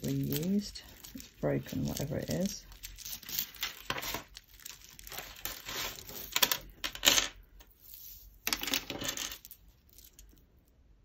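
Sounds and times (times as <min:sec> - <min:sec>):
jewellery clinking and rattling: 0:00.0 - 0:07.5, 0:08.4 - 0:10.7.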